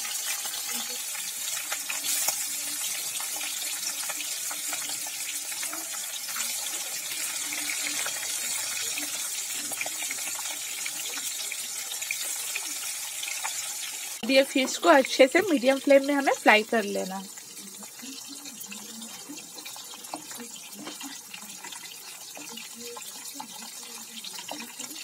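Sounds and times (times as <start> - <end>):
fish sizzling in hot oil: 0.0 - 25.0
oil crackling and popping: 0.0 - 25.0.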